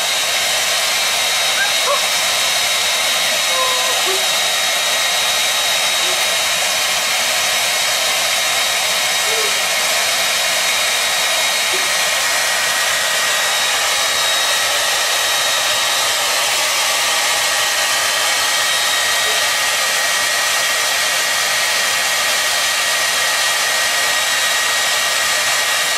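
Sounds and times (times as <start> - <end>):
hair dryer running: 0.0 - 25.9.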